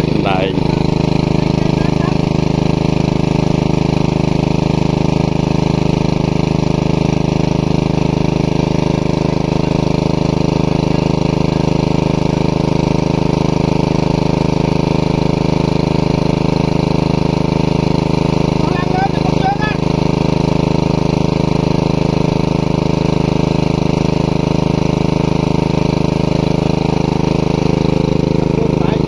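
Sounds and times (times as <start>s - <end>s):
small engine running a water pump: 0.0s - 29.0s.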